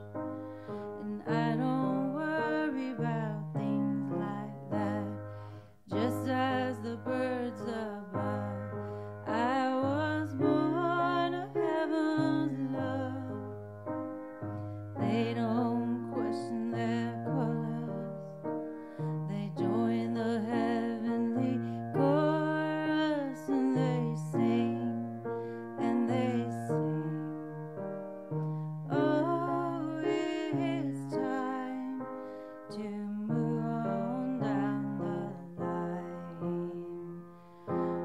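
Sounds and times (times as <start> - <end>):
woman singing a ballad: 0.0 - 13.6, 15.0 - 18.4, 19.0 - 27.6, 28.9 - 38.0
piano accompaniment: 0.0 - 38.0.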